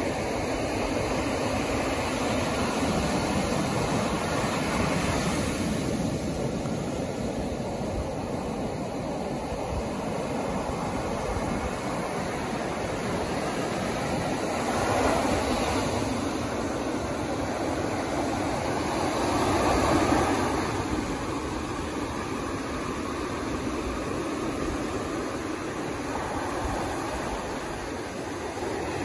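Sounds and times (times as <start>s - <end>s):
ocean surf breaking on beach: 0.0s - 29.0s.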